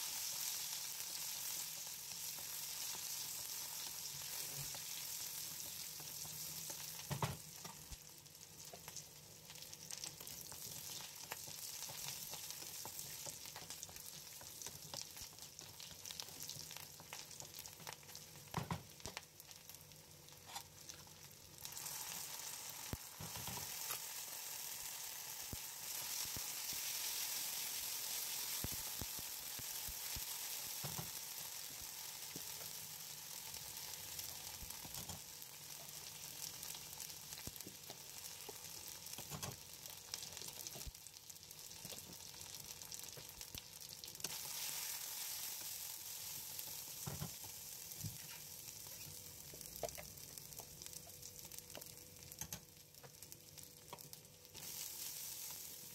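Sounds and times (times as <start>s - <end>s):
onions sizzling in hot oil: 0.0s - 55.9s.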